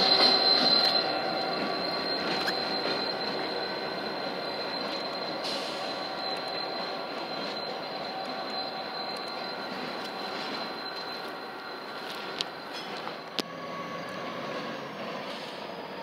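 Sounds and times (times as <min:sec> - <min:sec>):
diesel locomotive rumble: 0:00.0 - 0:16.0
wheel flanges squealing: 0:00.0 - 0:16.0.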